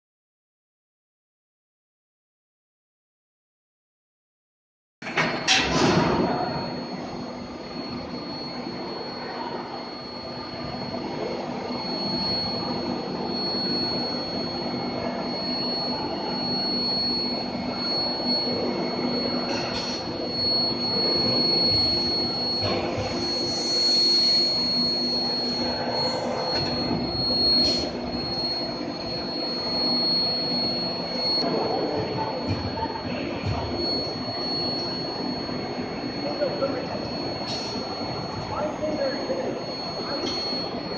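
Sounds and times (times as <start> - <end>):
high-pitched machine whine: 5.0 - 40.9
machine hum: 5.0 - 40.9.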